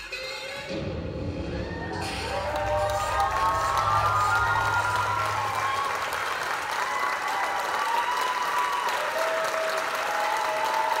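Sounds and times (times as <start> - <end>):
crowd whooping and cheering: 0.7 - 11.0
audience clapping: 2.0 - 11.0.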